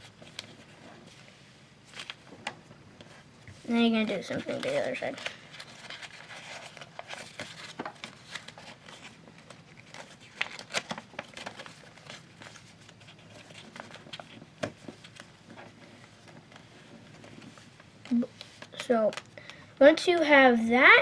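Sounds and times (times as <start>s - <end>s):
paper crinkling and creasing: 0.0s - 20.4s.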